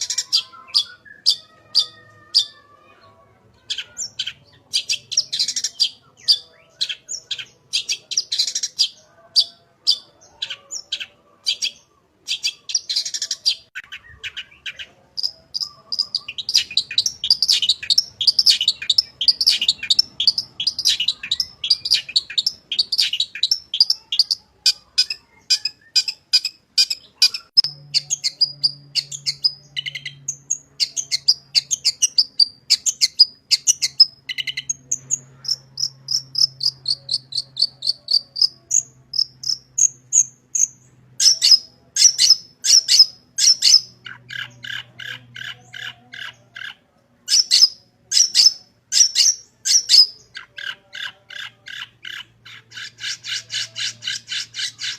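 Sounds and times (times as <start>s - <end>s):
bird singing varied song: 0.0s - 54.9s.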